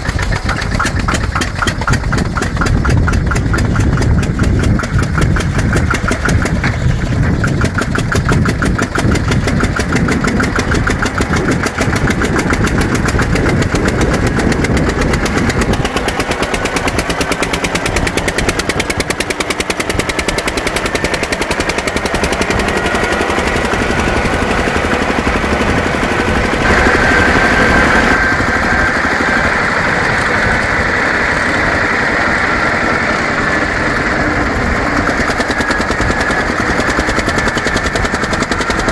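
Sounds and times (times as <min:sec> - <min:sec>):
tractor diesel engine knocking: 0:00.0 - 0:38.9.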